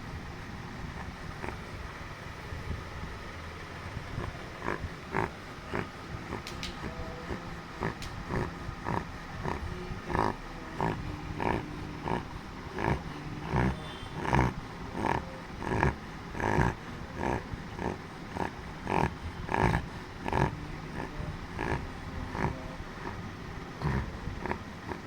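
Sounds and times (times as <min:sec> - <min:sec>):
dog snoring: 0:00.0 - 0:25.0.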